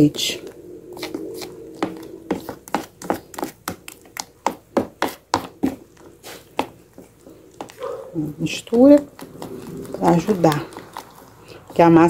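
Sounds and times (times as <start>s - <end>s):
batter stirred in blender jar: 0.1s - 12.0s.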